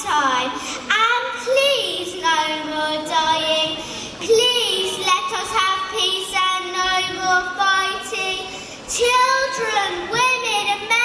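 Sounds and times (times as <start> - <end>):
child singing: 0.0 - 11.0.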